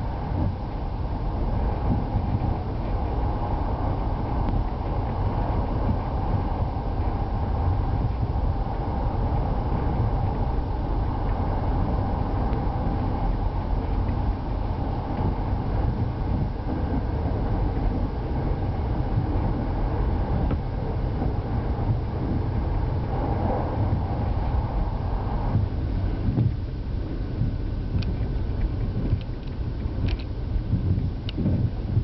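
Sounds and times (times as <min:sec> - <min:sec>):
diesel train rumbling on track: 0:00.0 - 0:32.0.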